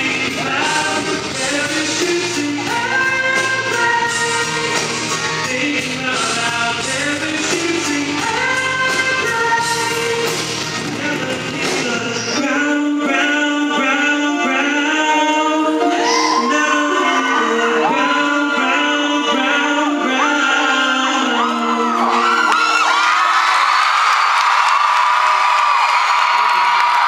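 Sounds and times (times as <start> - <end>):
man singing: 0.0 - 22.7
live pop-rock band: 0.0 - 24.9.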